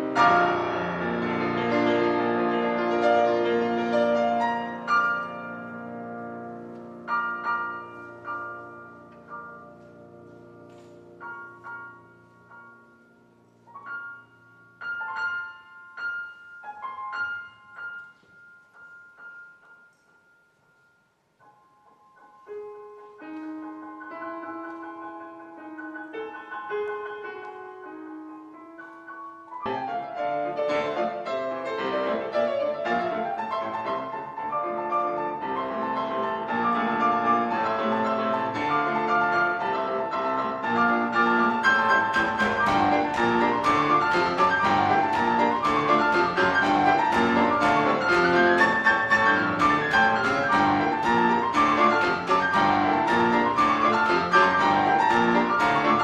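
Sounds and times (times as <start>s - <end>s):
solo piano playing: 0.0s - 56.0s.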